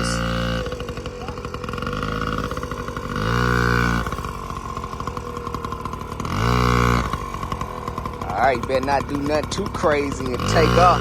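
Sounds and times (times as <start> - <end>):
dirt bike engine idling and revving: 0.0 - 11.0.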